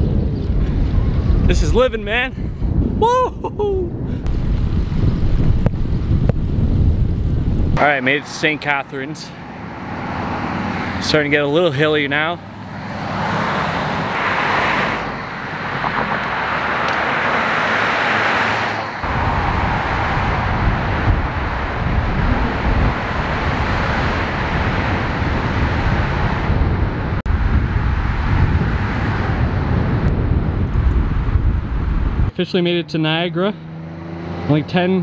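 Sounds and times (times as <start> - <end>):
wind and road noise in tunnel: 0.0 - 35.0
cars passing on road: 4.3 - 35.0.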